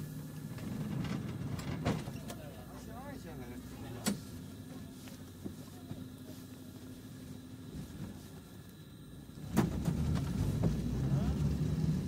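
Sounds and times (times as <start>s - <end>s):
tram low hum: 0.0s - 12.0s
tram low rumble: 0.0s - 12.0s.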